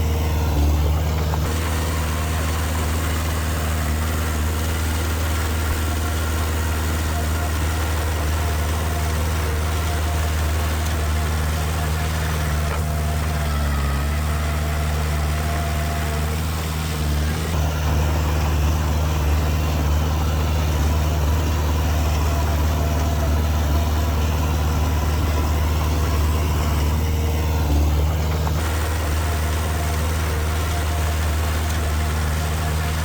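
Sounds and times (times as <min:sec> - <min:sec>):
heavy machinery diesel engine drone: 0:00.0 - 0:33.0.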